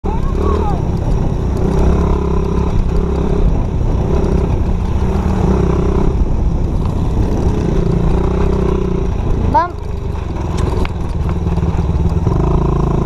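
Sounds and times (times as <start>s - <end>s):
dirt bike engine: 0.0s - 13.0s.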